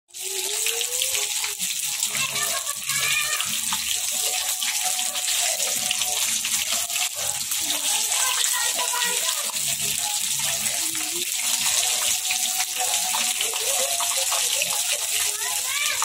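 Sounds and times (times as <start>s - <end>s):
chicken deep-frying in oil: 0.1s - 16.0s.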